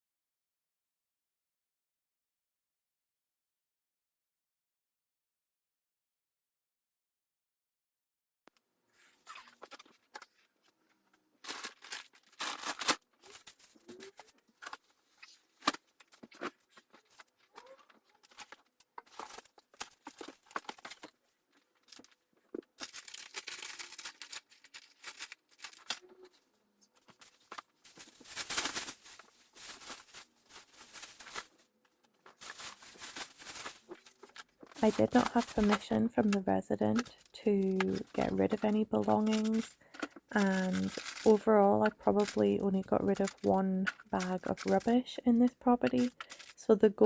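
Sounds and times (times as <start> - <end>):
rustling and crinkling: 9.0 - 47.0.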